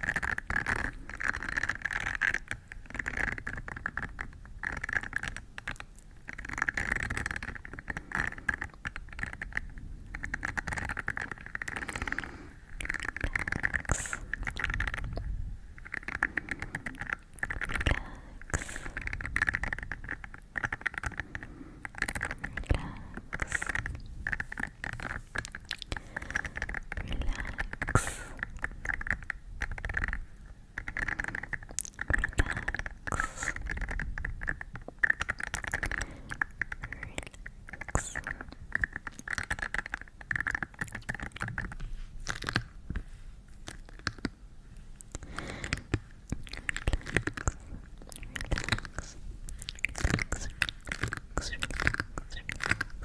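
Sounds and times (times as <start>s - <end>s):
close scratching and crackling: 0.0s - 53.0s.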